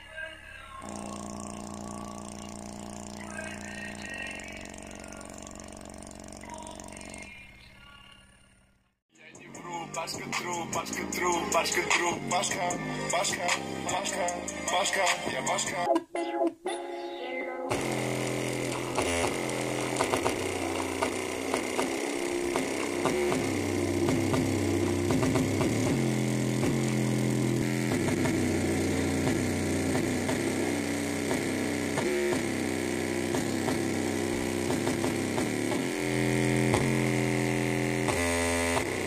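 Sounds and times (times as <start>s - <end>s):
speaker playing bass-heavy music: 0.0s - 7.4s, 9.1s - 39.0s.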